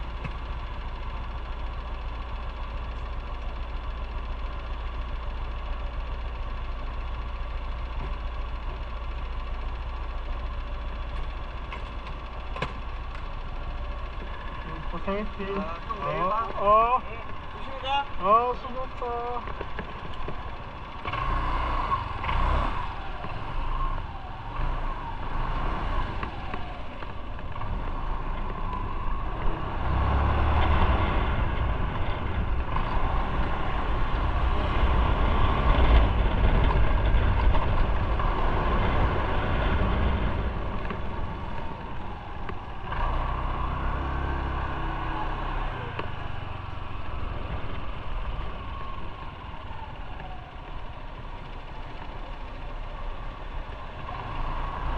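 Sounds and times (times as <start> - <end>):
motorcycle engine running: 0.0 - 54.9
road and wind noise: 0.0 - 54.9.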